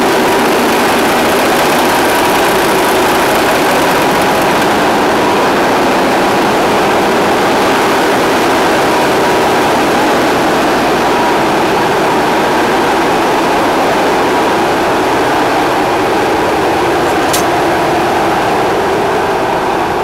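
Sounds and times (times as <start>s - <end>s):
diesel engines running: 0.0s - 20.0s.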